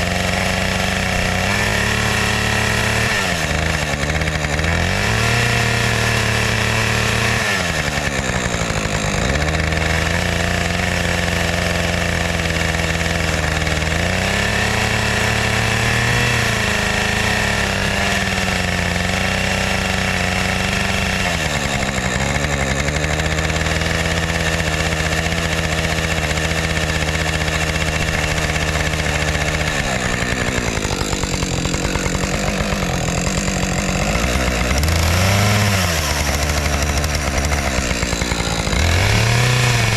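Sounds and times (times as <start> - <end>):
chainsaw cutting into a log: 0.0 - 39.9.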